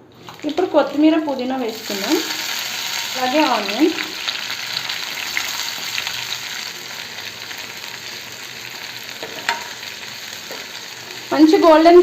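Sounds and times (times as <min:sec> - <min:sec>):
onion frying in hot oil: 0:00.0 - 0:12.0.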